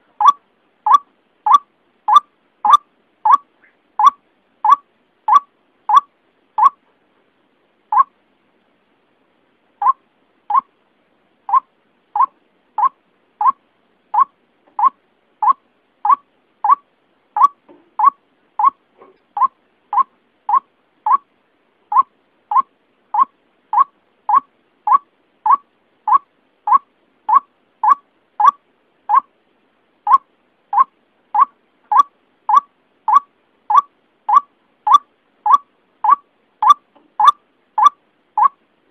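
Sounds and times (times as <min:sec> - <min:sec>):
waterhen calling: 0:00.0 - 0:06.8, 0:09.8 - 0:10.7, 0:11.5 - 0:21.3, 0:21.9 - 0:29.3, 0:30.1 - 0:38.6.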